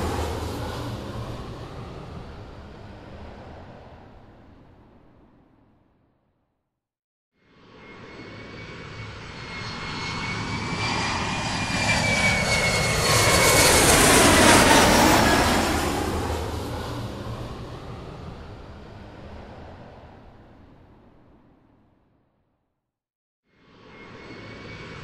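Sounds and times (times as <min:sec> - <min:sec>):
airplane engine flying over: 0:00.0 - 0:05.7, 0:07.4 - 0:21.8, 0:23.5 - 0:25.0.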